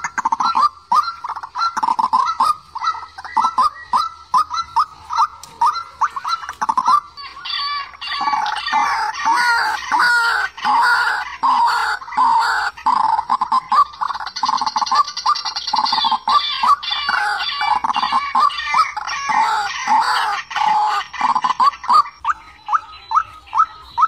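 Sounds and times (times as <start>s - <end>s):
waterhen clucking and croaking: 0.0s - 24.0s.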